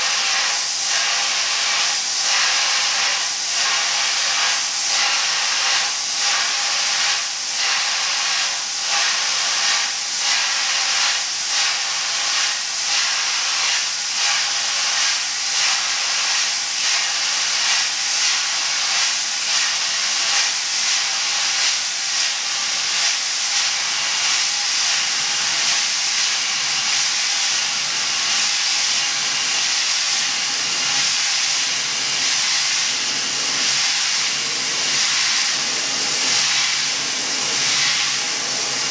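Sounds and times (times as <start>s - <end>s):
dry-ice jet hissing: 0.0s - 38.9s.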